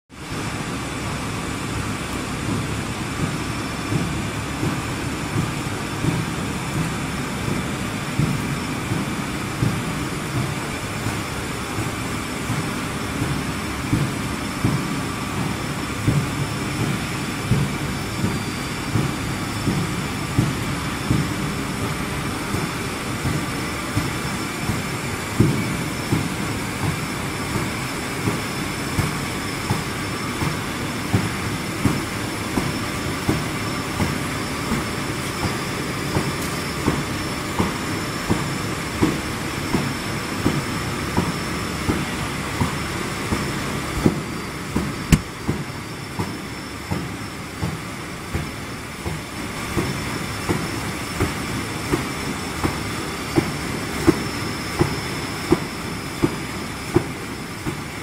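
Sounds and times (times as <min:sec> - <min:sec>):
roller machinery clatter: 0:00.3 - 0:58.0.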